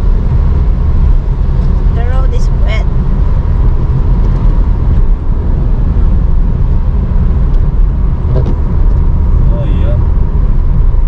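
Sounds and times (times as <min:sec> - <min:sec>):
low rumble of engine and tyres: 0:00.0 - 0:11.0.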